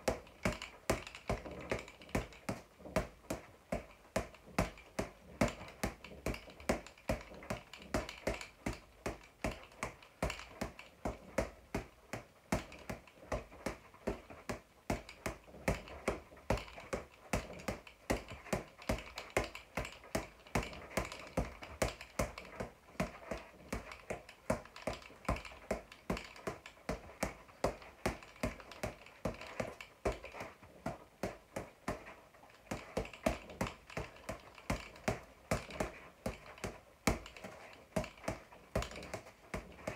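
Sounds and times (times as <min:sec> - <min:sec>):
boxing gloves punching a ball: 0:00.0 - 0:39.9.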